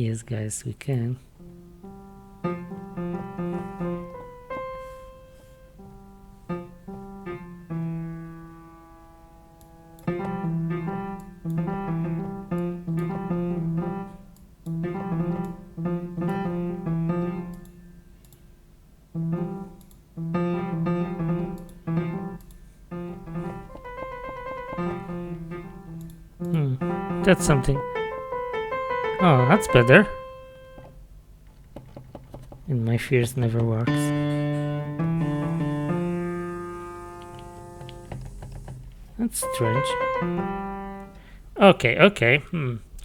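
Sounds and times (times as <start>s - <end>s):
piano chords: 1.2s - 42.4s.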